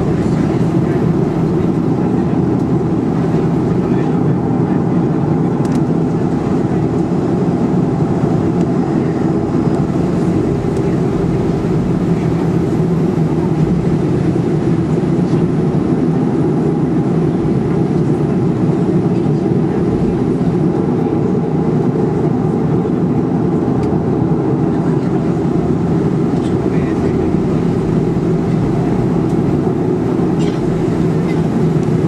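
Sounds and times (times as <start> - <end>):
jet engines idling drone: 0.0 - 32.0.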